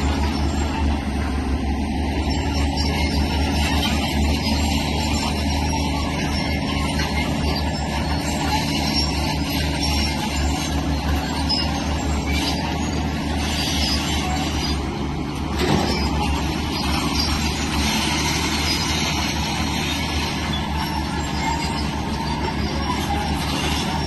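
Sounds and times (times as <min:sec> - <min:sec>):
bulldozer diesel engine running: 0:00.0 - 0:24.0
steel tracks rattling: 0:00.0 - 0:24.0.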